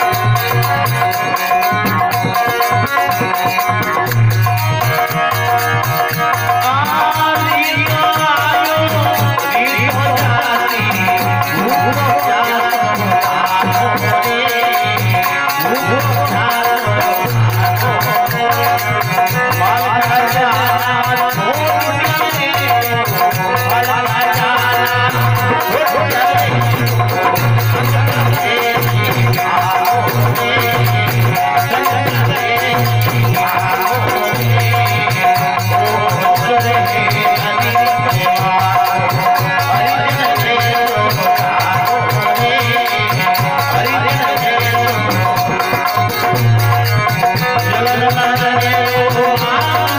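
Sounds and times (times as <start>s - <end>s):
hand drum beat: 0.0s - 49.9s
harmonium: 0.0s - 49.9s
man singing: 0.0s - 49.9s.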